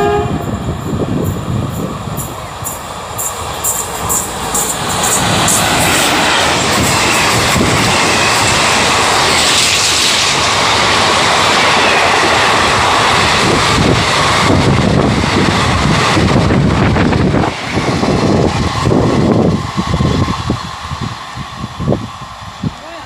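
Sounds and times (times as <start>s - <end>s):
train coaches rushing past: 0.0s - 23.0s.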